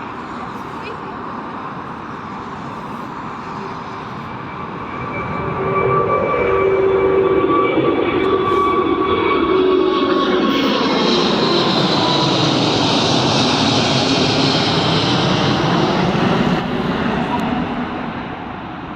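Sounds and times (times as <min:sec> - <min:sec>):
jet engines roaring: 0:00.0 - 0:18.9.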